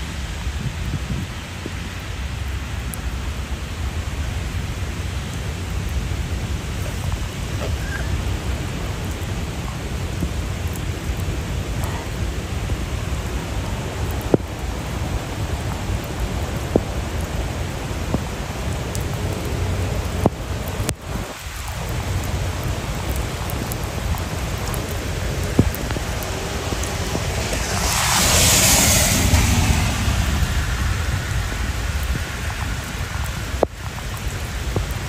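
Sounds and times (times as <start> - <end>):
heavy rain pouring: 0.0 - 35.0
sharp raindrop hits: 0.0 - 35.0.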